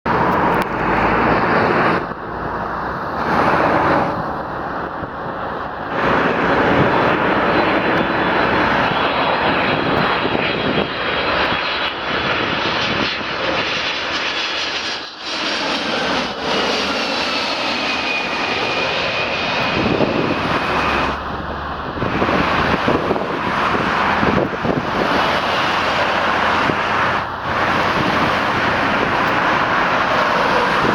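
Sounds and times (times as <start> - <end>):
jet engines roaring with whine: 0.1 - 30.9.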